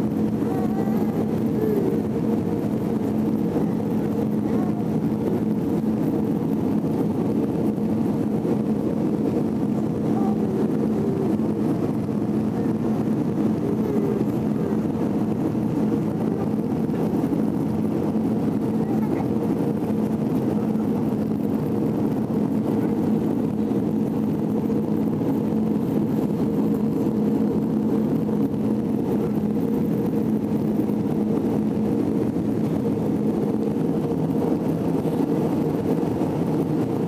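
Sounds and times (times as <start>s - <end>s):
jet engine and airflow rush: 0.0s - 37.0s
low cabin hum: 0.0s - 37.0s.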